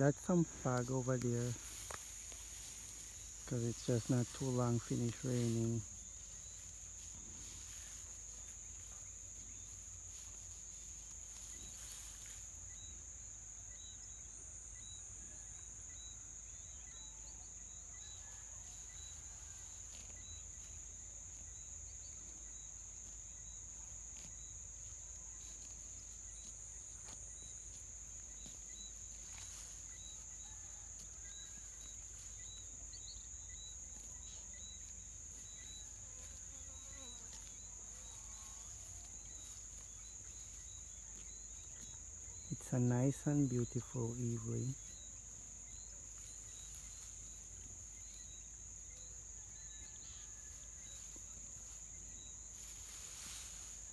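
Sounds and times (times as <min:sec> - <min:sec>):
faint insect chirps: 0:00.0 - 0:53.9
insects trilling: 0:00.0 - 0:53.9.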